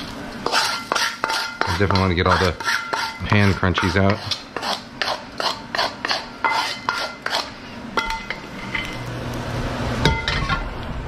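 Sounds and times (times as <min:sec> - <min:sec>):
utensil scraping a pan: 0:00.4 - 0:09.1, 0:10.0 - 0:10.7.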